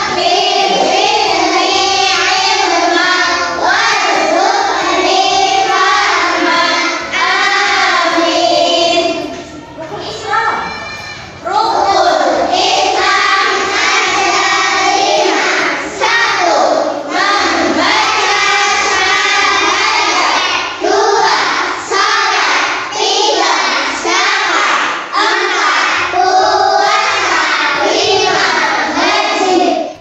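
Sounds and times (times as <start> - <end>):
children singing in unison: 0.0 - 30.0.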